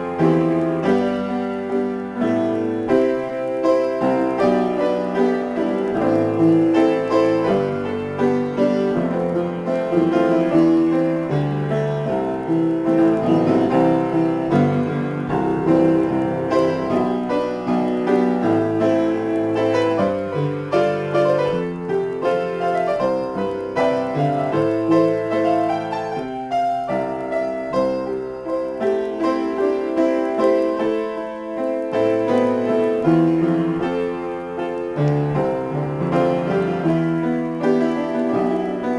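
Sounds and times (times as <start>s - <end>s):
upright piano improvising: 0.0s - 38.9s.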